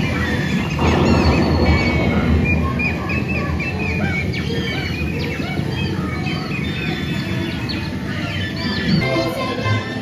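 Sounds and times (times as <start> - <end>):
bird chirps and tweets: 0.0 - 10.0
low ride rumble: 0.0 - 10.0.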